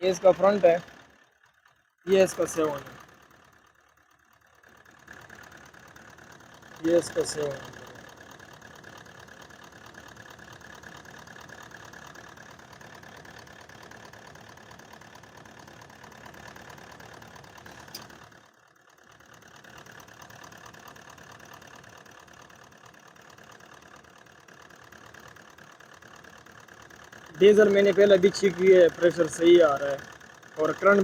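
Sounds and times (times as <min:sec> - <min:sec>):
diesel engine idling with misfire: 0:00.0 - 0:31.0.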